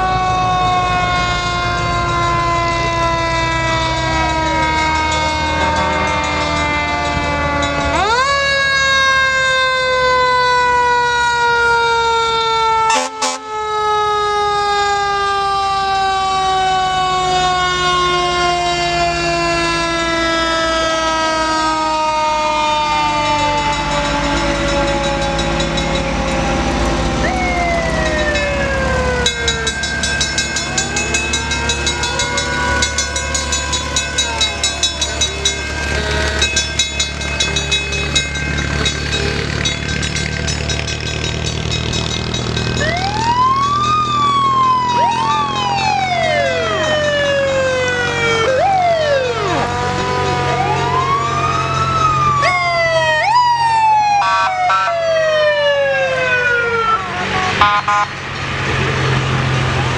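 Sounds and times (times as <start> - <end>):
siren wailing: 0.0 - 40.8, 42.1 - 58.2
mechanical siren winding down: 0.0 - 41.0, 41.6 - 58.1
truck engines: 0.0 - 59.9.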